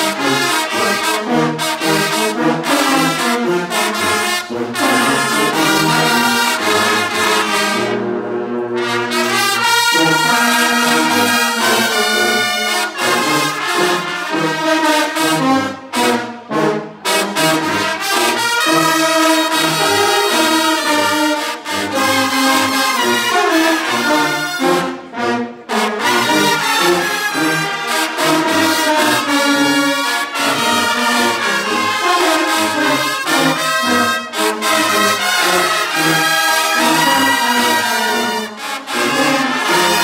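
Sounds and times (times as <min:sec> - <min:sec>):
low brass: 0:00.0 - 0:40.0
trumpets: 0:00.0 - 0:40.0.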